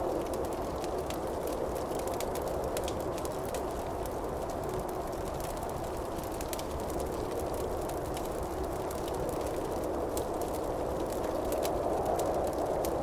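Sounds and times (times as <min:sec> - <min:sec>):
rush of campfire flames: 0:00.0 - 0:13.0
wood crackling and popping: 0:00.0 - 0:13.0.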